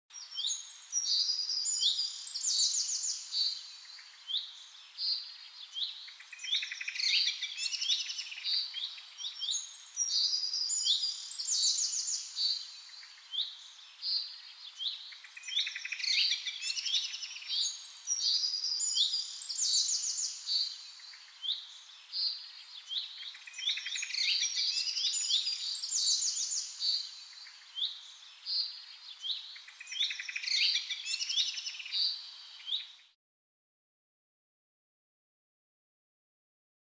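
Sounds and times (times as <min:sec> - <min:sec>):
bird chirps and trills: 0:00.2 - 0:33.1.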